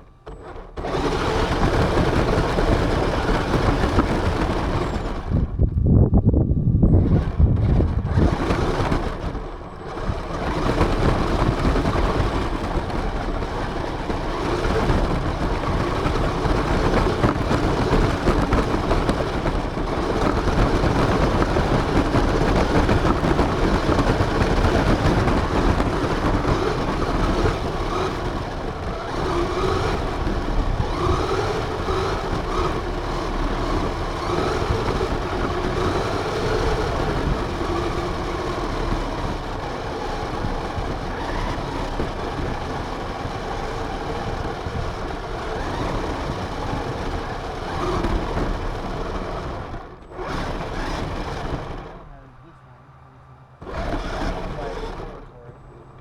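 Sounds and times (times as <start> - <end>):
rc car motor and wheels rumble: 0.0 - 56.0
wavering motor whine: 0.0 - 56.0.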